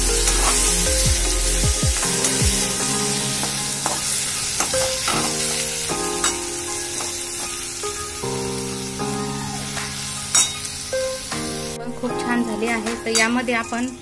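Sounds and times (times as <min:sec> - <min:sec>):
onion sizzling in hot oil: 0:00.0 - 0:13.8
background music: 0:00.0 - 0:14.0.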